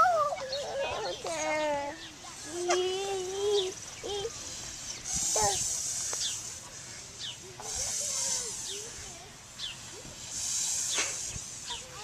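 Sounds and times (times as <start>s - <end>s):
high hissing bursts: 0.0s - 12.0s.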